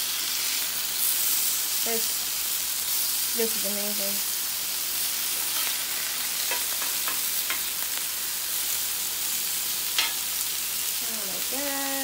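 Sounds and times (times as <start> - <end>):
mushrooms sizzling on grill pan: 0.0 - 12.0.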